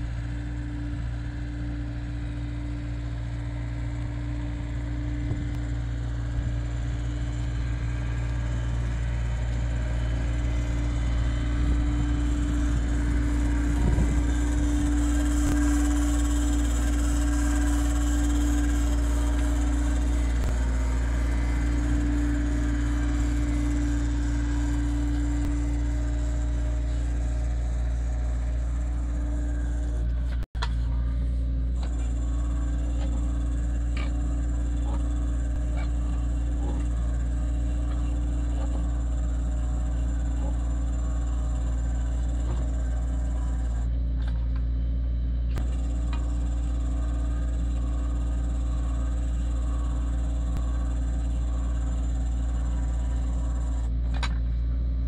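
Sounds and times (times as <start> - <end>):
excavator engine drone: 0.0 - 55.0
hydraulic earth drill hum: 0.0 - 55.0.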